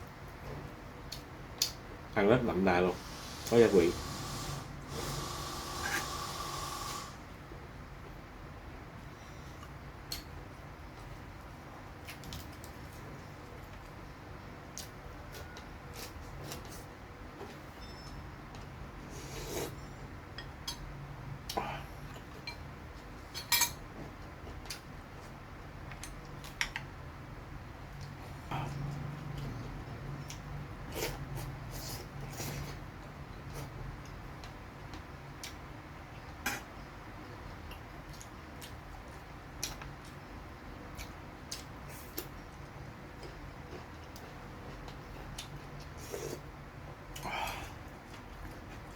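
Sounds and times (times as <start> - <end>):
quiet eating sounds: 8.9 - 48.9.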